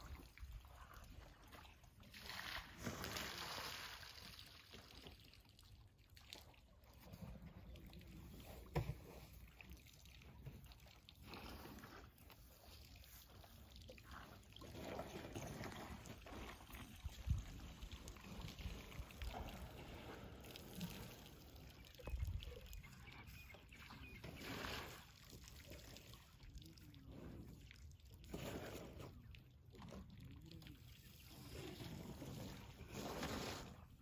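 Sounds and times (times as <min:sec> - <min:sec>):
water trickling and pouring: 0:00.0 - 0:34.0.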